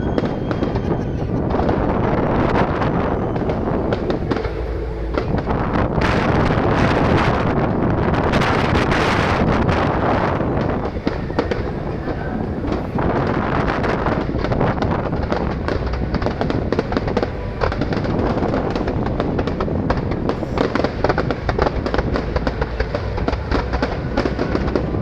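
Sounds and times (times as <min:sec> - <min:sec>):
fireworks popping and banging: 0:00.0 - 0:25.0.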